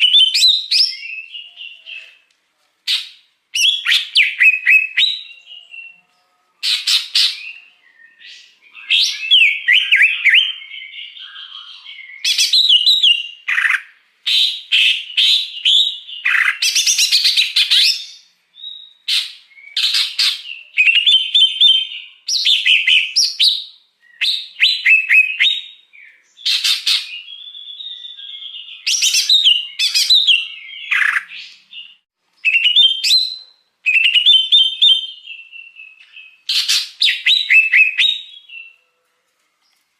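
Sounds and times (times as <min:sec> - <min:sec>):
bird singing chirps and trills: 0:00.0 - 0:02.3, 0:03.0 - 0:39.8.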